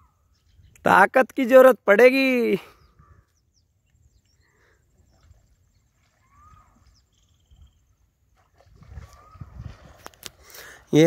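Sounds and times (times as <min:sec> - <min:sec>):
distant bird calls: 0:00.0 - 0:01.0, 0:02.4 - 0:10.9.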